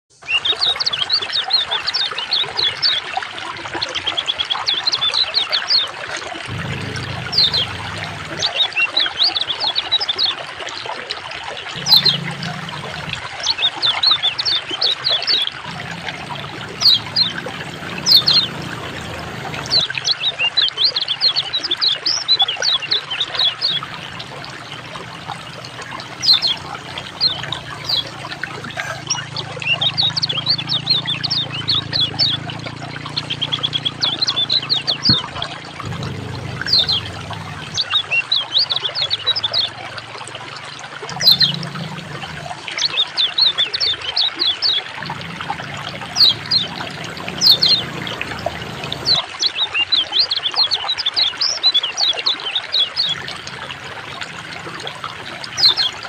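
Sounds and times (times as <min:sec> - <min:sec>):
water trickling: 0:00.2 - 0:56.0
songbird singing: 0:06.5 - 0:10.4, 0:11.8 - 0:53.6, 0:55.3 - 0:56.0.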